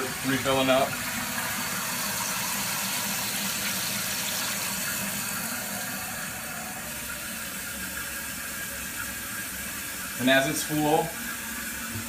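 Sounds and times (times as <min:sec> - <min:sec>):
water hissing into toilet tank: 0:00.0 - 0:12.0.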